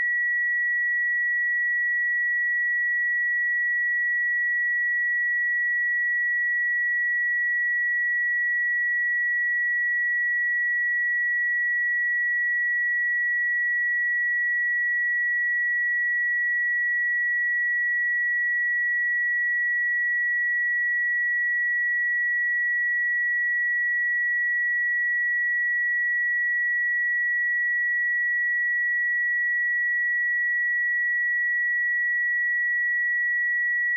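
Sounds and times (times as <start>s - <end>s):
high sine-wave test tone: 0.0s - 33.9s.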